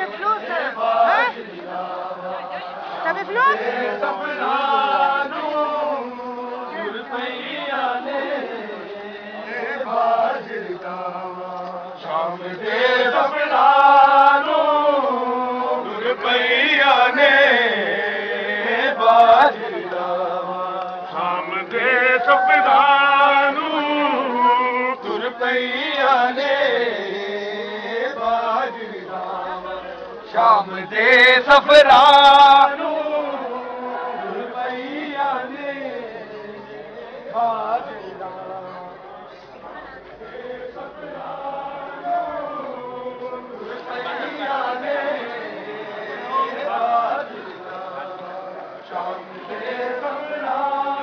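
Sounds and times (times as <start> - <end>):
men chanting together: 0.0 - 38.9, 39.8 - 51.0.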